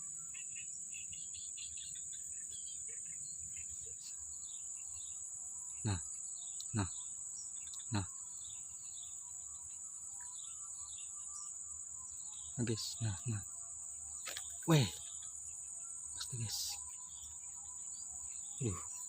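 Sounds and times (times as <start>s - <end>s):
insect drone: 0.0s - 19.0s
small birds chirping: 0.0s - 19.0s.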